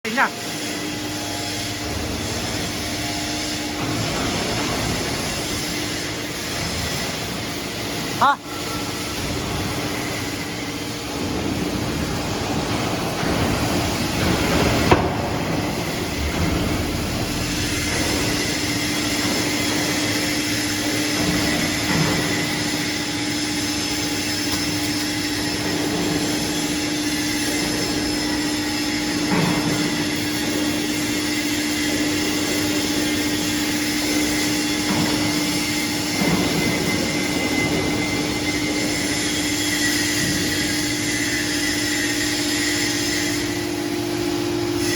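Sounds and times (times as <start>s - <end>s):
hydraulic baler humming: 0.0s - 44.9s.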